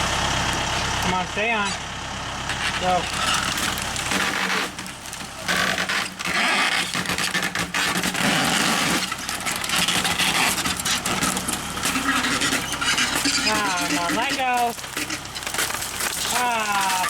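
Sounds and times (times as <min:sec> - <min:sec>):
loader engine running: 0:00.0 - 0:17.0
log dragging scraping and clattering: 0:02.4 - 0:17.0.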